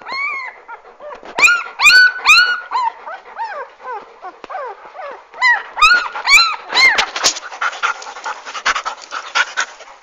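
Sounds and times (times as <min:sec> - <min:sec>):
puppies whining: 0:00.0 - 0:09.7
puppies panting: 0:00.0 - 0:10.0.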